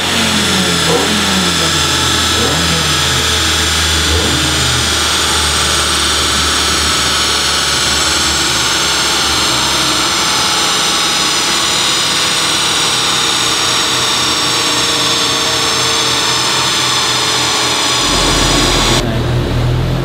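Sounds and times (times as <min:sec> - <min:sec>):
car engine droning on dyno rollers: 0:00.0 - 0:20.0
large cooling fan: 0:00.0 - 0:20.0.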